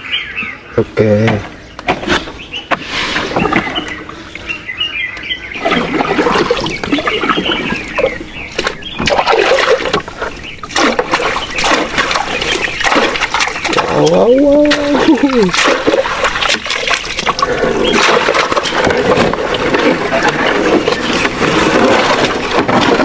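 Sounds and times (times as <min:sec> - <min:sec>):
water splashing and trickling: 0:01.1 - 0:04.5, 0:05.5 - 0:23.0.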